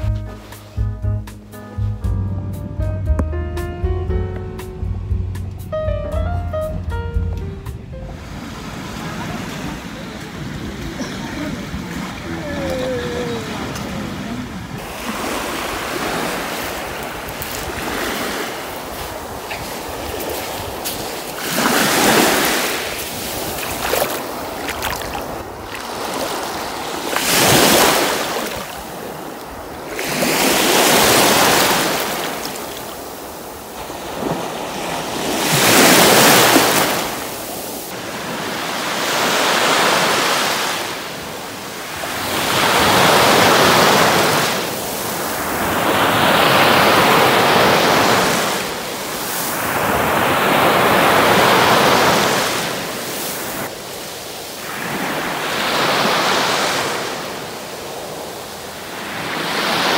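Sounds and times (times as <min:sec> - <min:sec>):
sea waves breaking on shore: 0:08.1 - 0:59.9.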